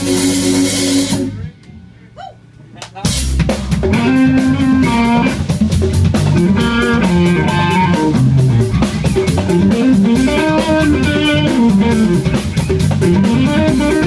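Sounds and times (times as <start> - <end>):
drum kit beat: 0.0 - 1.6, 2.8 - 14.0
electric guitar: 0.0 - 1.8, 3.0 - 14.0
bass guitar: 0.0 - 14.0.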